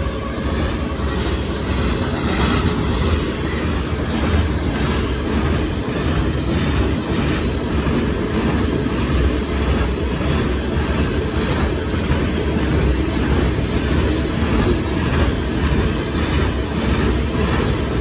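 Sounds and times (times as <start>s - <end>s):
freight train wheels on rails: 0.0s - 18.0s.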